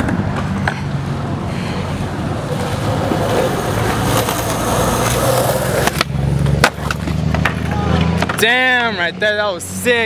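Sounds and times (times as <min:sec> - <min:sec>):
skateboard wheels rolling on concrete: 0:00.0 - 0:10.0.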